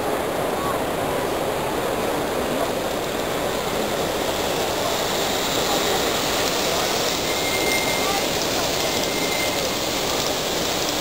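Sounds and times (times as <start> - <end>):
distant crowd talking: 0.0 - 11.0.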